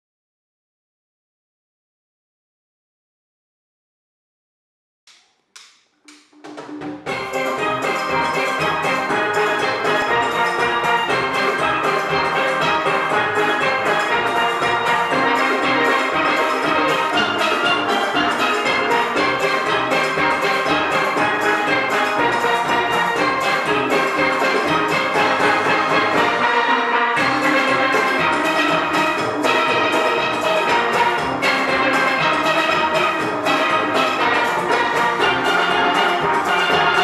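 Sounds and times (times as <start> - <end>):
drum kit beat: 5.1 - 37.0
steelpan melody: 6.4 - 37.0.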